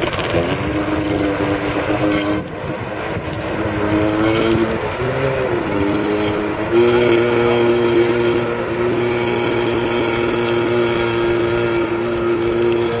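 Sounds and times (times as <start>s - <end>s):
jet ski engines buzzing: 0.0s - 13.0s.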